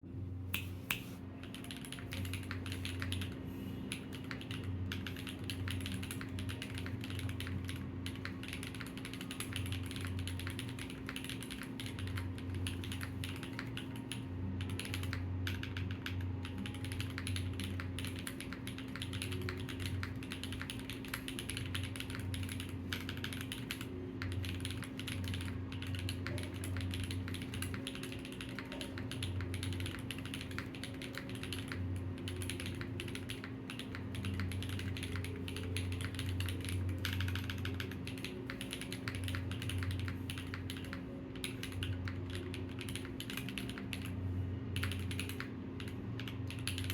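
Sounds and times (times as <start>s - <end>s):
fast typing on keyboard: 1.4s - 44.2s, 44.8s - 46.9s.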